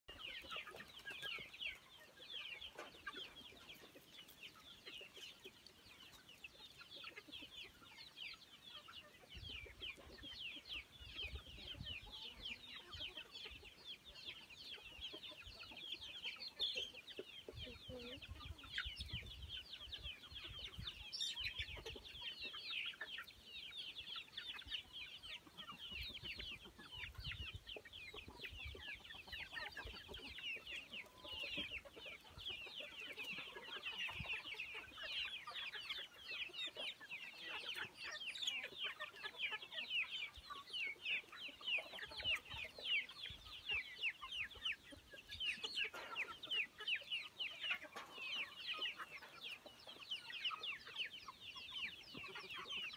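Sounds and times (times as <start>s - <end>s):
young chickens peeping: 0.1s - 52.9s.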